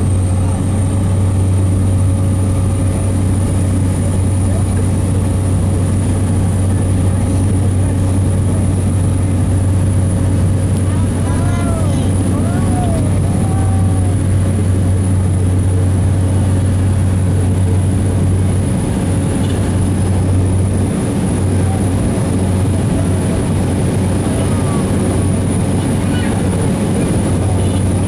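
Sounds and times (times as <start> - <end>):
airplane engines droning: 0.0 - 28.0.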